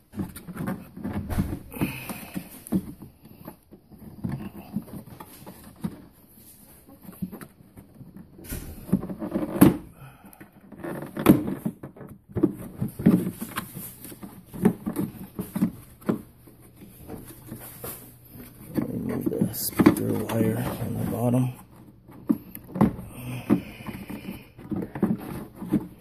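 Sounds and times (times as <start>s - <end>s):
plastic knocks and scrapes: 0.0s - 26.0s.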